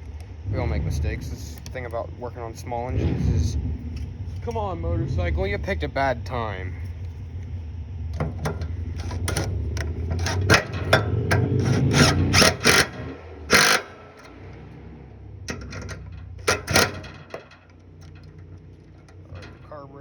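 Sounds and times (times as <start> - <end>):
passing motorcycle engine: 0.0 - 20.0.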